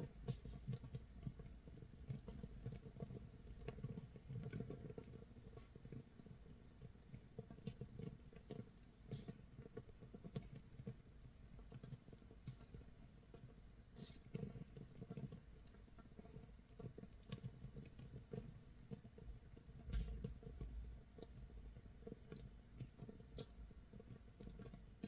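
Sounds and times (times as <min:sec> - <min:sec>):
fermenting mash popping and fizzing: 0:00.0 - 0:25.0.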